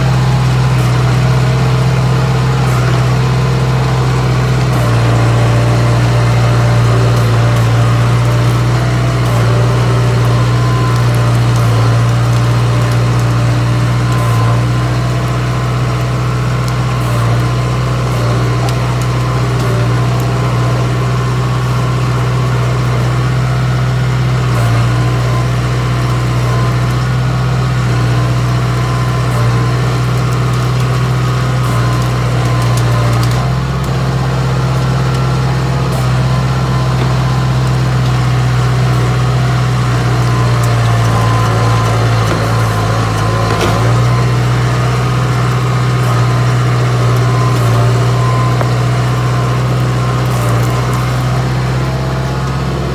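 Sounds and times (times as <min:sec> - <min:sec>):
bulldozer diesel engine drone: 0:00.0 - 0:52.9.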